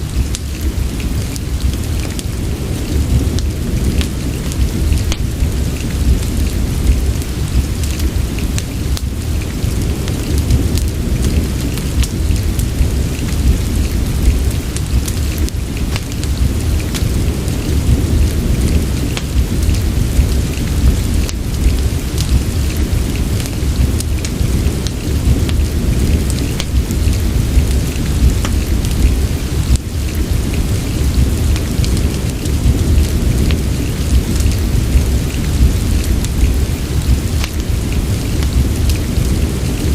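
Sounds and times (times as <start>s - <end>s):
deep low rumble: 0.0s - 39.9s
fireplace fire crackling: 0.0s - 39.9s
steady rain: 0.0s - 39.9s.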